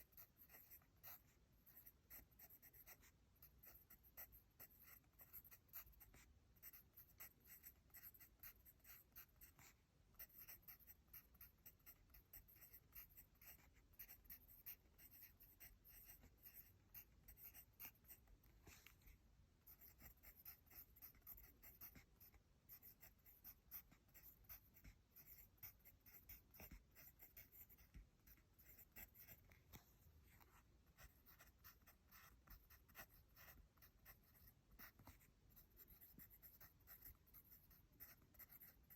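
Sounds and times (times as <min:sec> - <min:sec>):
pencil scratching on paper: 0:00.0 - 0:38.9.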